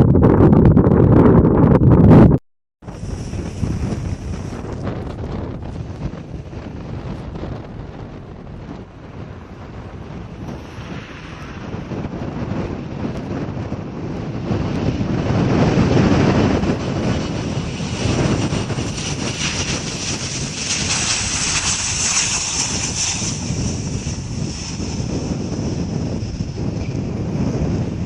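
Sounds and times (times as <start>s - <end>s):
wind buffeting microphone: 0.0s - 28.0s
airliner engines passing: 2.9s - 28.0s.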